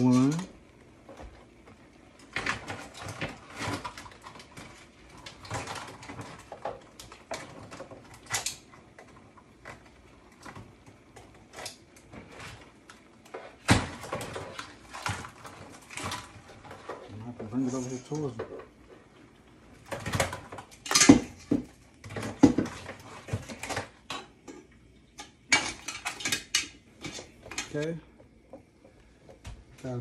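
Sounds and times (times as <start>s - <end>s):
crab shells clicking and scraping: 0.2s - 29.1s.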